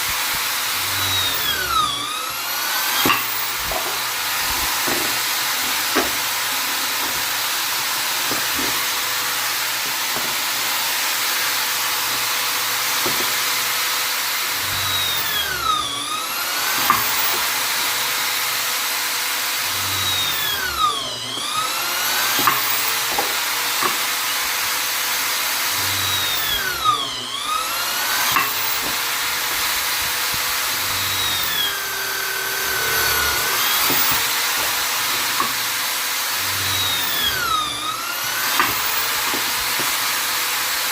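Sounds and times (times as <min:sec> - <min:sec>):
electric drill motor whine: 0:00.0 - 0:40.9.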